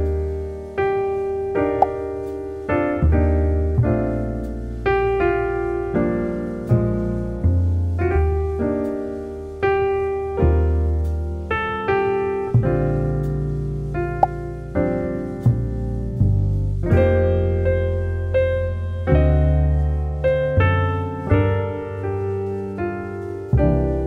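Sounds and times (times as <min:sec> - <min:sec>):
low bass notes: 0:00.0 - 0:24.0
piano chords: 0:00.0 - 0:24.0.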